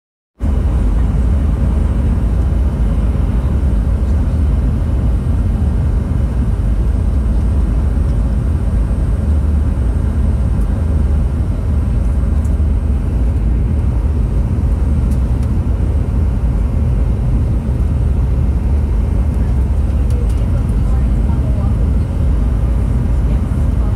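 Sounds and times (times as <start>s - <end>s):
airplane cabin engine drone: 0.4s - 23.9s.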